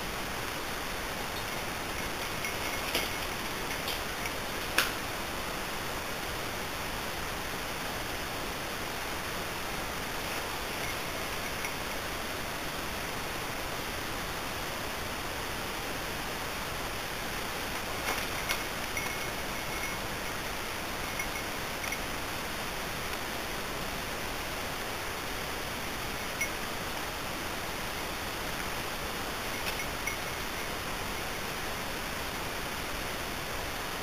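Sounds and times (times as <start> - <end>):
steady rushing hiss: 0.0 - 34.0.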